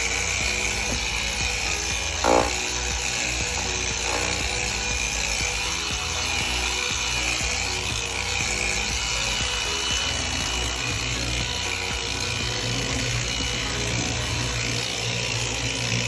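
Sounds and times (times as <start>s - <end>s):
background music: 0.0s - 16.0s
power tool running: 0.0s - 16.0s.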